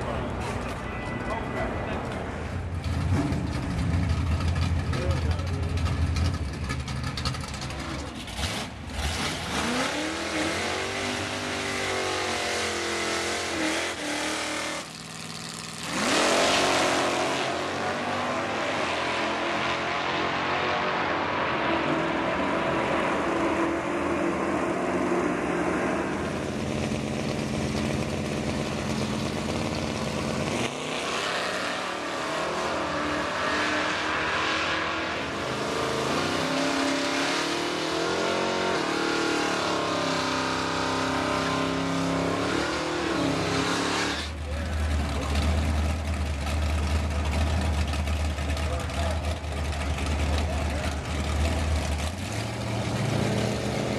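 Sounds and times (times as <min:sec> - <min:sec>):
drag car engines revving: 0:00.0 - 0:53.9.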